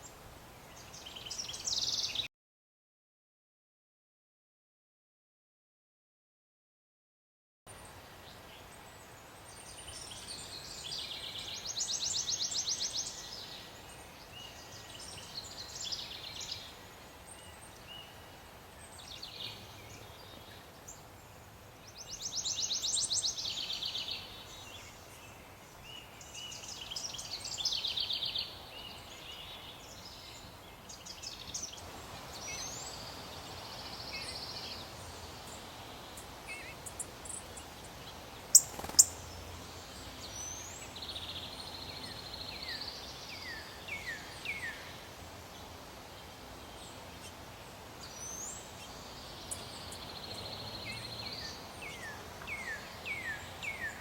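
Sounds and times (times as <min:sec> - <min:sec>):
songbirds trilling: 0:08.3 - 0:54.0.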